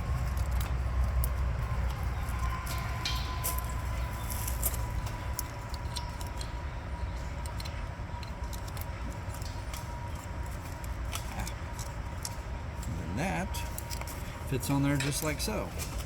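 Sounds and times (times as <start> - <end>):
low rumble: 0.0 - 13.2
faint steady whine: 0.0 - 16.0.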